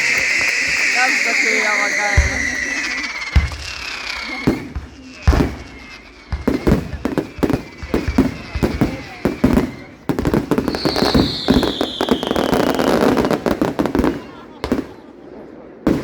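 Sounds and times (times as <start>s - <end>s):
falling firework whistle: 0.0s - 15.1s
fireworks bangs: 0.0s - 16.0s
fireworks crackling: 0.0s - 16.0s.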